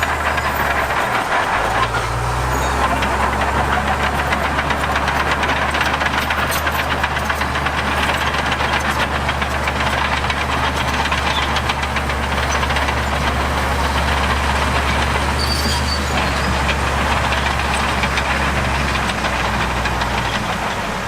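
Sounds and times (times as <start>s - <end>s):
heavy diesel engine clattering: 0.0s - 21.0s.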